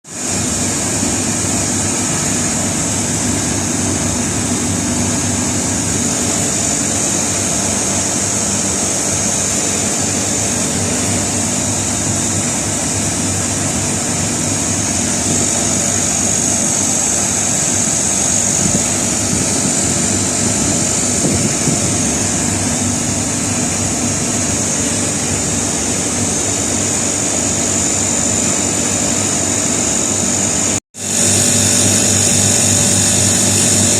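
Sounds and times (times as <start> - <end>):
air conditioner unit humming: 0.2 - 33.9
high-pitched whine: 0.2 - 33.9.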